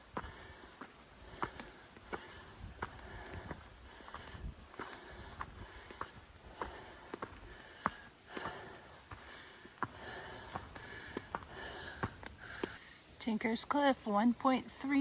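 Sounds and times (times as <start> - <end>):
footsteps on trail: 0.0 - 12.8
person breathing hard: 0.0 - 13.1.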